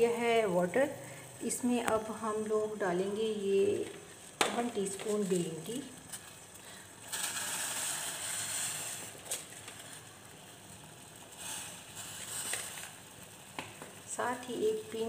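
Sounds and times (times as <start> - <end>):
pot of water simmering: 0.0 - 15.0.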